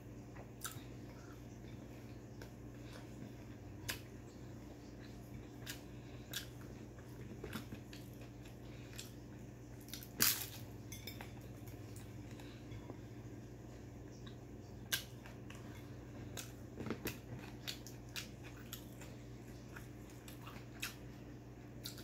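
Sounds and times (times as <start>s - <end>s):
chewing crispy fried food: 0.2s - 22.0s.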